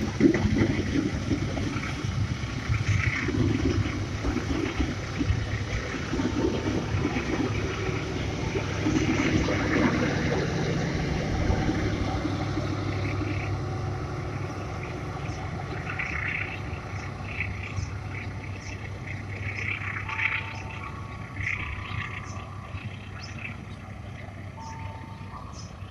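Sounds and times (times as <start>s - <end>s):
train rumbling on rails: 0.0s - 25.9s.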